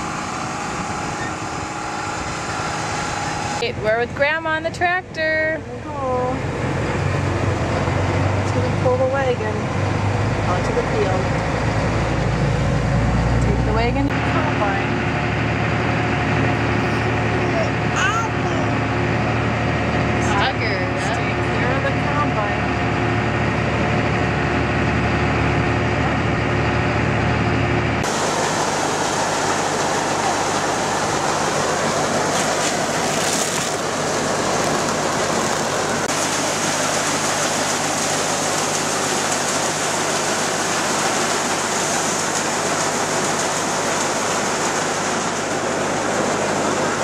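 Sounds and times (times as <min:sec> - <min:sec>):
constant low hum: 0:00.0 - 0:40.0
noisy machine drone: 0:00.0 - 0:47.0
tractor engine humming: 0:00.0 - 0:47.0.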